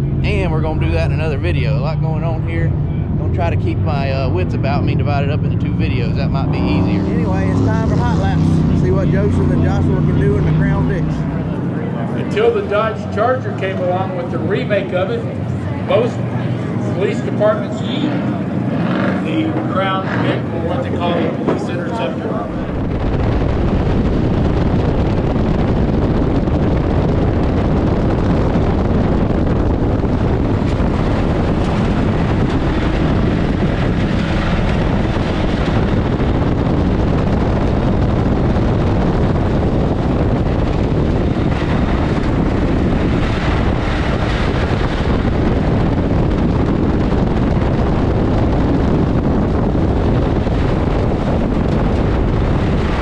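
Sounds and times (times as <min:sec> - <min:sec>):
race car engine running: 0:00.0 - 0:53.0
wind noise on microphone: 0:00.0 - 0:53.0.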